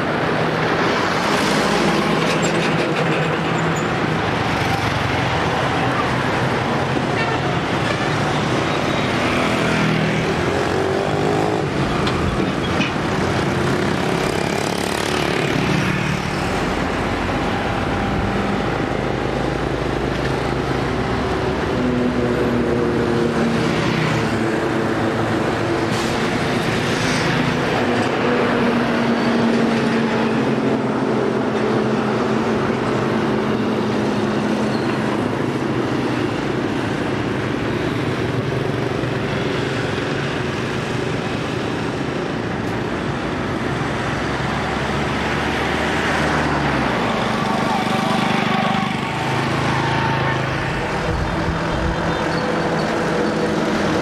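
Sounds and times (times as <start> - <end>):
lorry engines passing: 0.0 - 54.0
motorbikes passing: 0.0 - 54.0.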